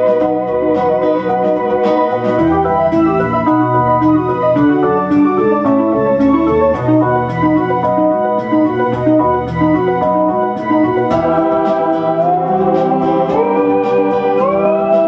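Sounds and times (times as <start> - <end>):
electronic backing track: 0.0 - 15.0
theremin melody: 0.0 - 15.0.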